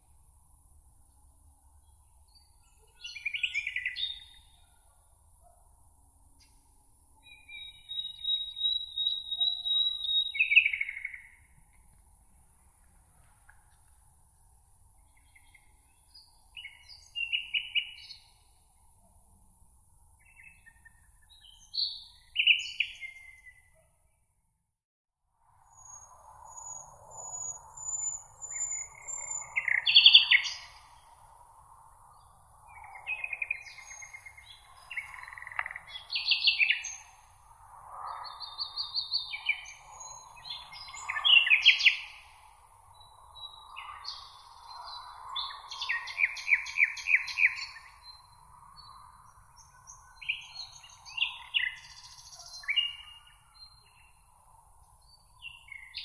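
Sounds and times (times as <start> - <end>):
songbirds singing and chirping: 1.8 - 5.6, 6.4 - 11.9, 14.9 - 18.9, 20.1 - 24.2, 25.7 - 56.0.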